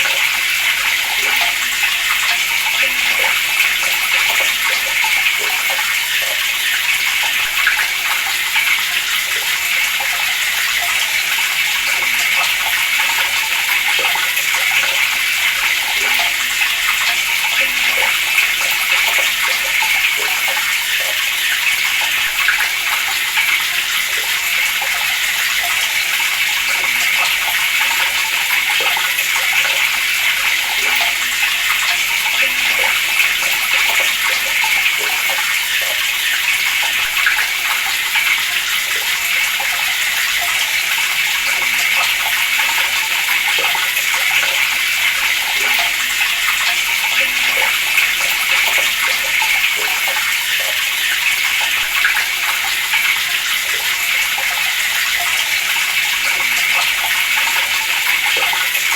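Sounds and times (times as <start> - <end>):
water running from a tap: 0.0 - 58.9.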